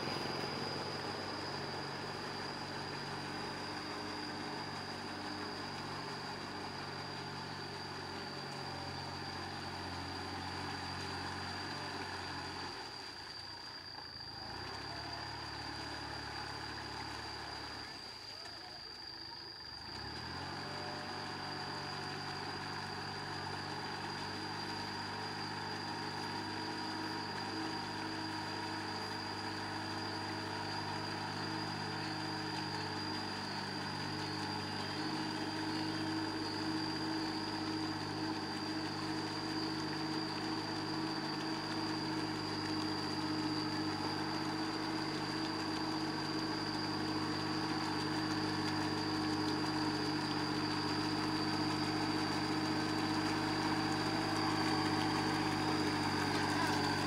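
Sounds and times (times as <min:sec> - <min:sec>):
tractor diesel engine running: 0:00.0 - 0:13.6, 0:18.8 - 0:57.0.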